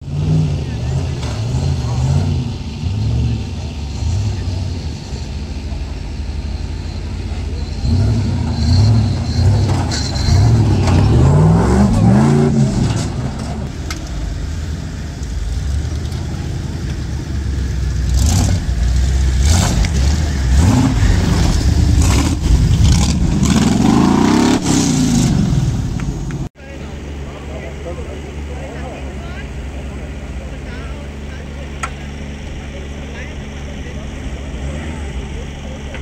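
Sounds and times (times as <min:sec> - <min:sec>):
off-road engines revving hard: 0:00.0 - 0:36.0.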